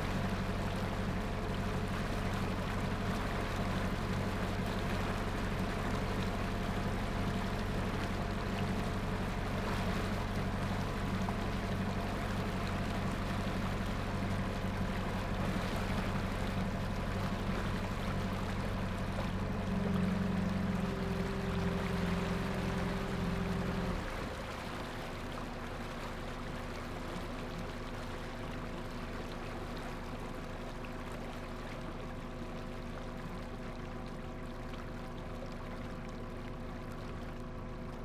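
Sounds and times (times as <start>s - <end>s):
motor boat engine: 0.0s - 38.0s
propeller wash splashing: 0.0s - 38.0s.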